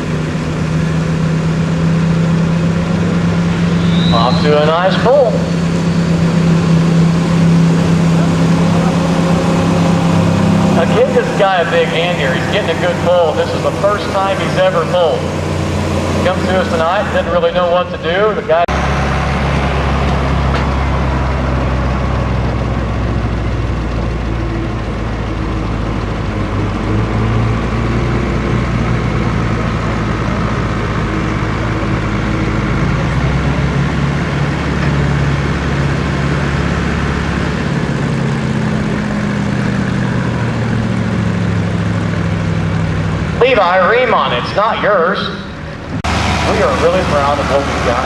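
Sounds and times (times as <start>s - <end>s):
truck engine running under load: 0.0s - 48.0s.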